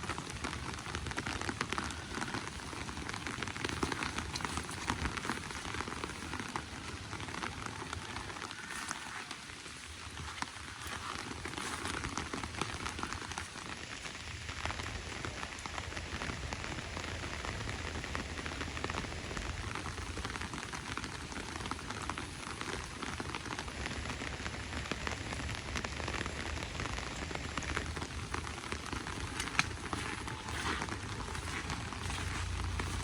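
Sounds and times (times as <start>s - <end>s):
rain pattering on surfaces: 0.0s - 33.0s.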